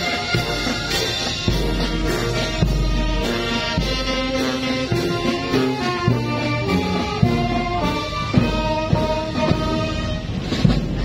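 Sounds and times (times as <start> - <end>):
marching band playing: 0.0 - 11.0.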